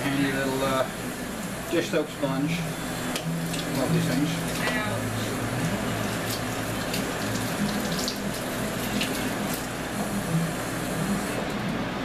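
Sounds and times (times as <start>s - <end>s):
kitchen faucet running: 0.0s - 11.7s.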